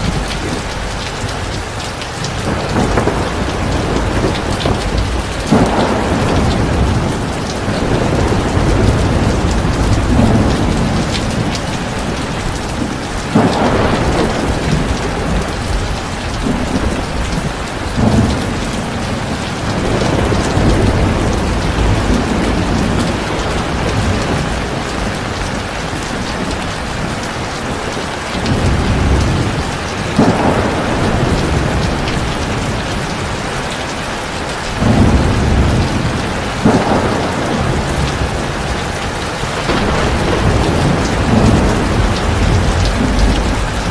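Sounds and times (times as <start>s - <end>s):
low thunder rumbles: 0.0s - 33.9s, 34.7s - 43.9s
heavy rain: 0.0s - 43.9s.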